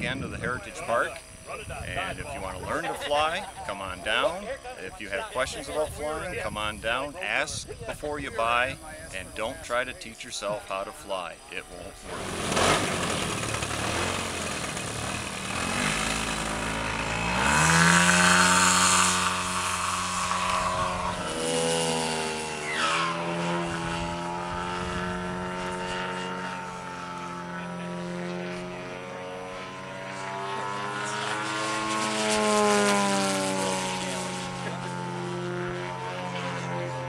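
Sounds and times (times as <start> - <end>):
model airplane propeller engine: 0.0 - 37.0.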